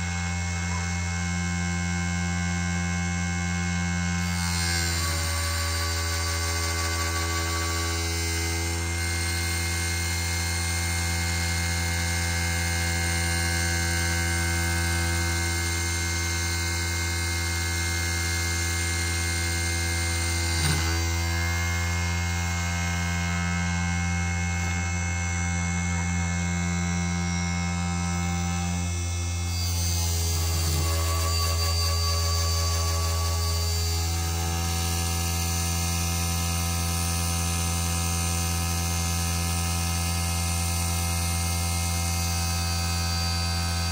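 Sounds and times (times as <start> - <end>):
lathe motor hum with whining: 0.0 - 43.9.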